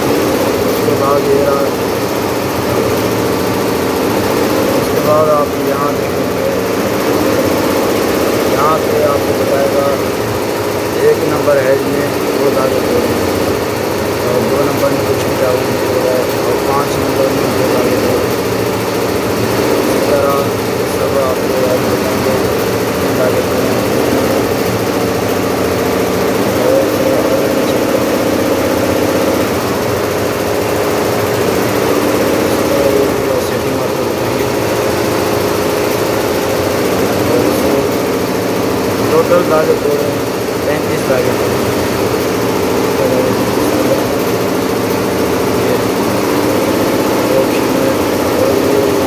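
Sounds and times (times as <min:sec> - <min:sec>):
embroidery machine droning: 0:00.0 - 0:49.0
steady hum: 0:00.0 - 0:49.0.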